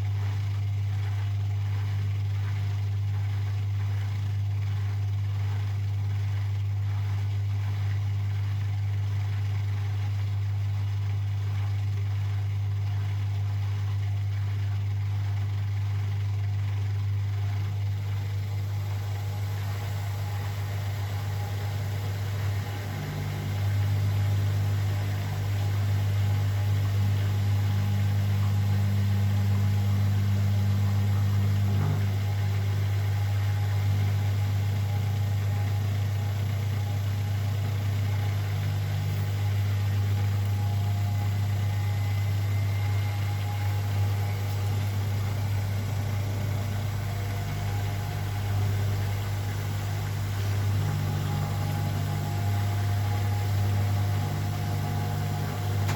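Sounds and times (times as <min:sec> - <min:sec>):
washing machine spinning: 0:00.0 - 0:55.9.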